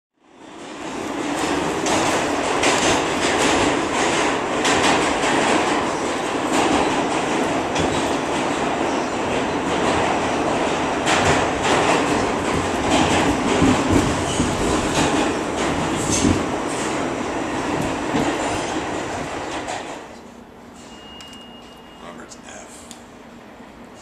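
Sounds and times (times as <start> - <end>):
subway train rumbling: 0.2 - 24.0
wheels clacking over rails: 0.7 - 20.1.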